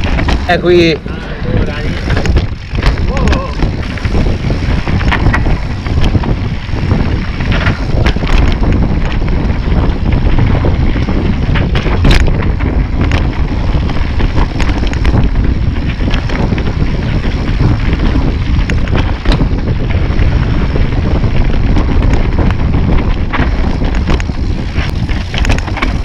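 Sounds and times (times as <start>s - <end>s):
mountain bike rattling: 0.0s - 26.0s
wind buffeting microphone: 0.0s - 26.0s.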